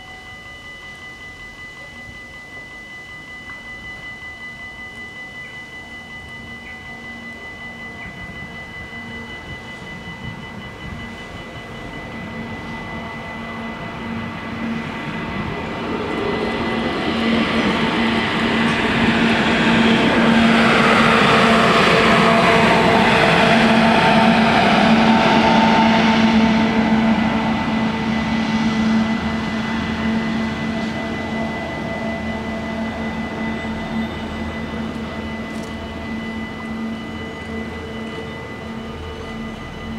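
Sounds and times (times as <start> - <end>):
crossing warning bells ringing: 0.0 - 39.9
train passing: 1.0 - 39.9.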